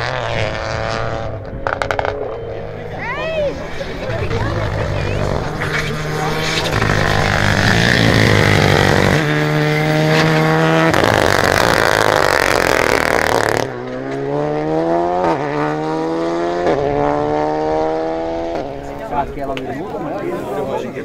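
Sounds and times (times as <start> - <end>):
rally car engine at full throttle: 0.0 - 21.0
rush of tyre and dirt noise: 0.0 - 21.0.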